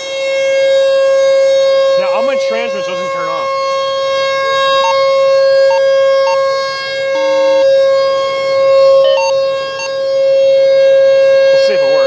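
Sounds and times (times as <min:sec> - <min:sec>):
civil defense warning siren: 0:00.0 - 0:12.0.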